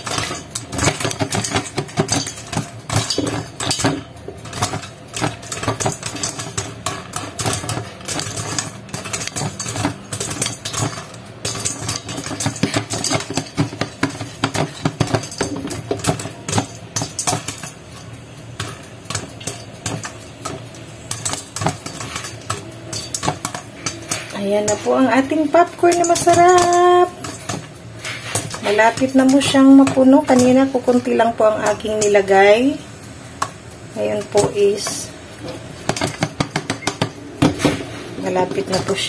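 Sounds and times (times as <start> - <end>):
kernels clinking on pot: 0.0 - 39.0
popcorn popping in metal pot: 0.0 - 39.0.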